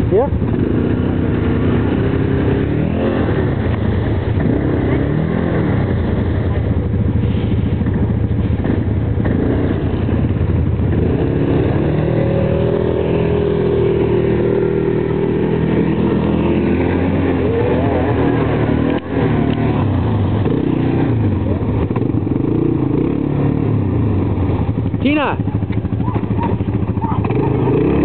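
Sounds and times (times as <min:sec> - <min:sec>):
quad engine revving: 0:00.0 - 0:28.0.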